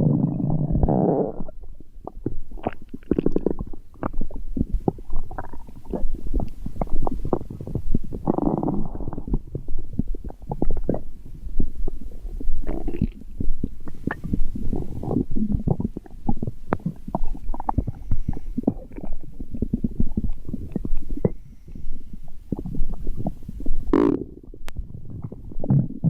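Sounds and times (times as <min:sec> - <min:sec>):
stomach growling and gurgling: 0:00.0 - 0:26.0.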